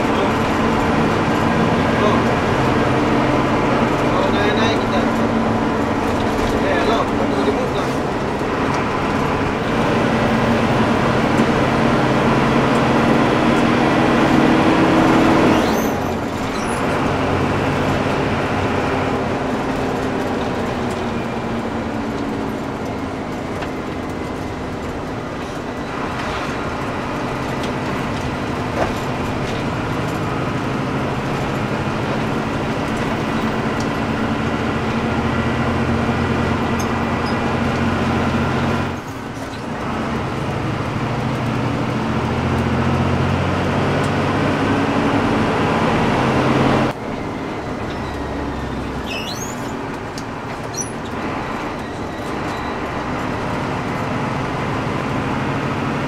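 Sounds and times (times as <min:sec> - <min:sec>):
bus diesel engine drone: 0:00.0 - 0:56.0
road noise: 0:00.0 - 0:56.0.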